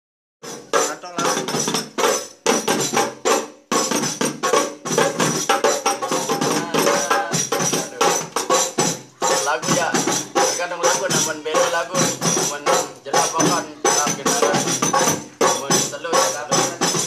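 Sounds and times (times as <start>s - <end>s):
frame drums struck by hand: 0.4s - 17.0s.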